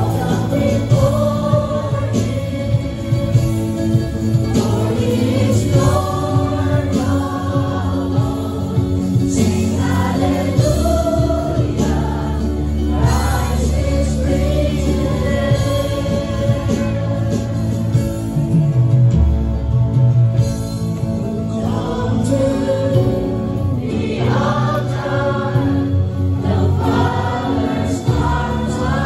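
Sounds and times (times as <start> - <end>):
group singing worship song: 0.0 - 18.3, 21.2 - 29.0
live band: 0.0 - 29.0.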